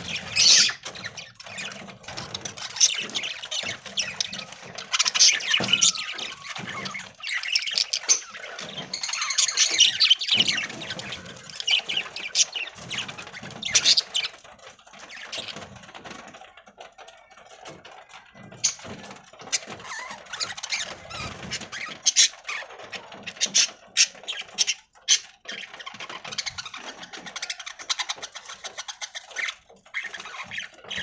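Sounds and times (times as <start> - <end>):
budgies chirping and chattering: 0.0 - 31.0.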